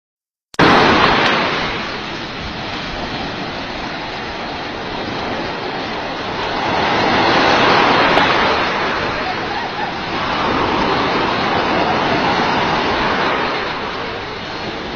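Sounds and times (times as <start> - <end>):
surf on a beach: 0.5 - 14.9.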